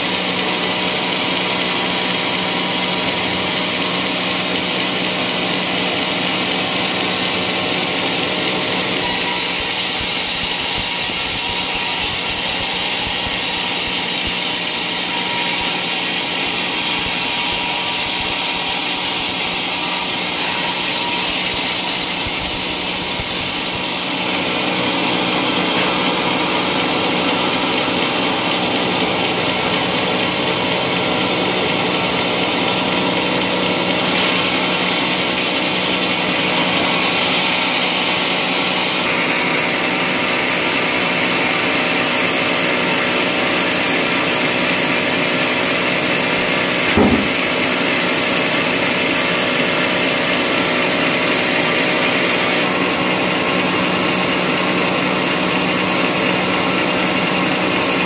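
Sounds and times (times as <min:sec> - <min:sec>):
band saw cutting log: 0:00.0 - 0:58.0.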